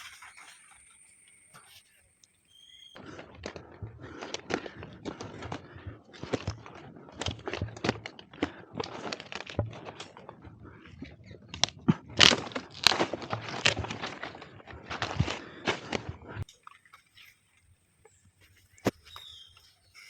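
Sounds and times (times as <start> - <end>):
dry leaves and twigs crackling: 0.0 - 20.0.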